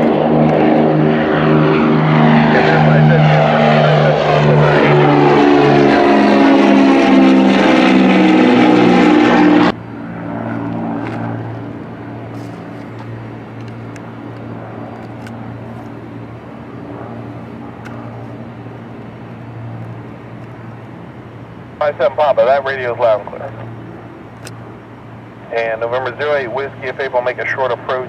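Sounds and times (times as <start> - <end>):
propeller airplane engines passing: 0.0 - 28.0.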